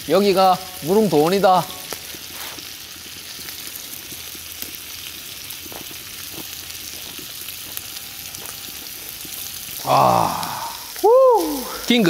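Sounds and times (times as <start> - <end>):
meat sizzling on grill pan: 0.0 - 12.0
small crackles: 0.8 - 12.0.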